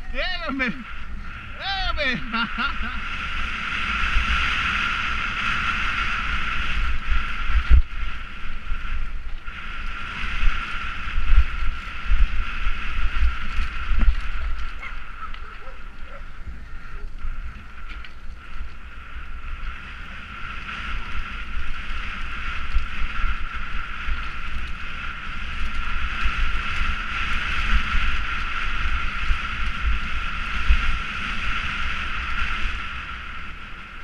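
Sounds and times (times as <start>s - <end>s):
bike rattling over gravel trail: 0.0s - 34.0s
steady high whine: 0.0s - 34.0s
wind buffeting microphone: 0.0s - 34.0s.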